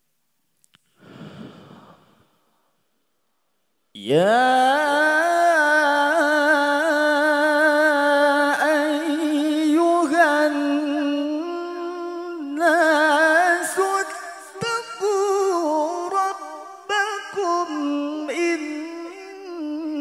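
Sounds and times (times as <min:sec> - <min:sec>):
man chanting melodically: 0:03.9 - 0:20.0.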